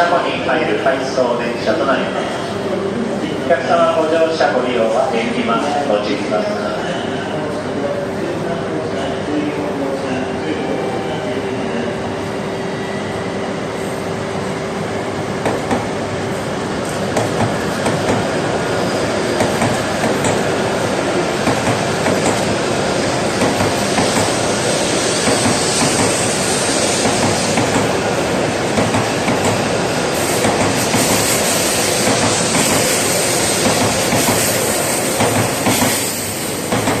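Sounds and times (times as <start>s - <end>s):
train wheels on rail: 4.9s - 37.0s.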